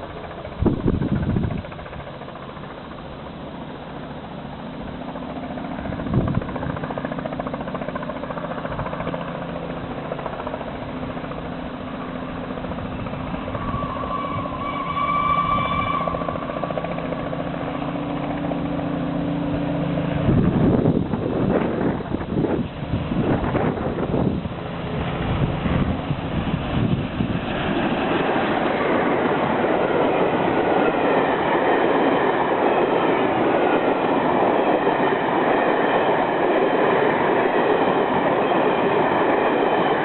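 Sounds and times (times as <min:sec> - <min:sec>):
steam locomotive running: 0:05.8 - 0:40.0.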